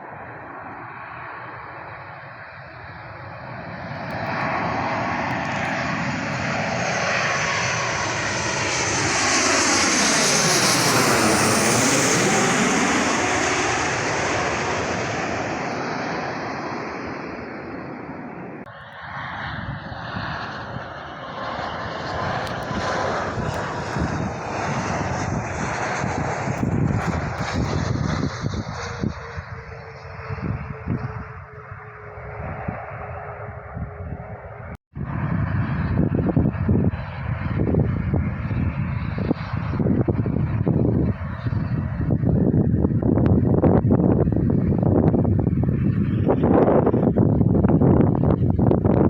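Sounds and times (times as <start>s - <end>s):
low-flying airplane passing overhead: 0.0s - 49.0s.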